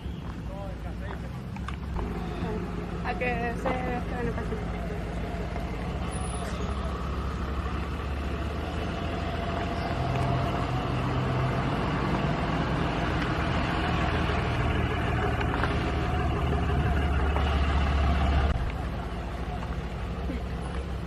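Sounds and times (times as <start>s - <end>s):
background noise: 0.0s - 21.0s
car engine idling: 0.1s - 21.0s.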